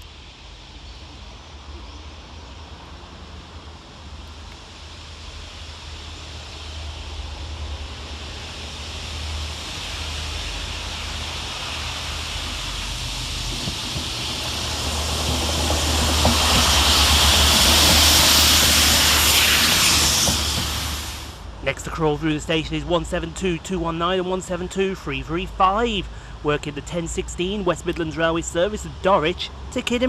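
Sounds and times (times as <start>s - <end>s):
train hiss: 0.0s - 30.0s
train rumble: 0.0s - 30.0s.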